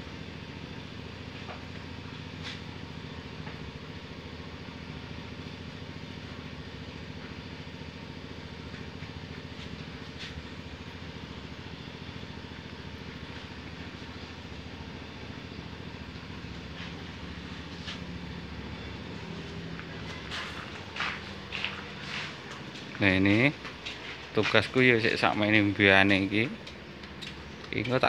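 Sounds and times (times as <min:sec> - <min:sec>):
engine running steadily: 0:00.0 - 0:28.0.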